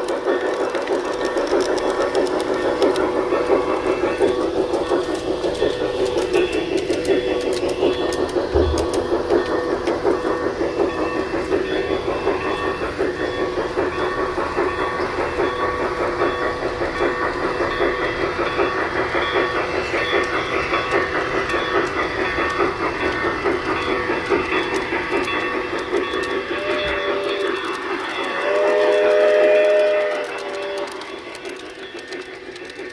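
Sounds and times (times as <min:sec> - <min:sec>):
model train motor whirring: 0:00.0 - 0:32.9
wheels clicking over rails: 0:00.0 - 0:32.9.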